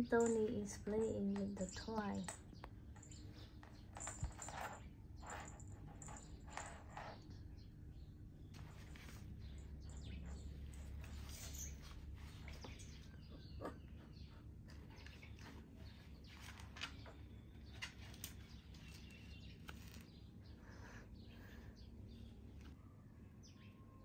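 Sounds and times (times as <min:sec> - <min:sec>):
faint bird chirps: 0:01.6 - 0:24.0.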